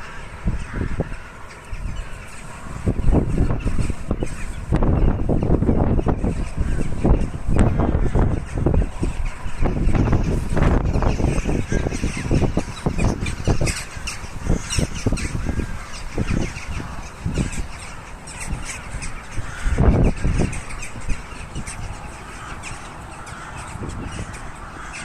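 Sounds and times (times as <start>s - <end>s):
crows cawing: 0.0s - 25.0s
wind buffeting microphone: 0.0s - 25.0s.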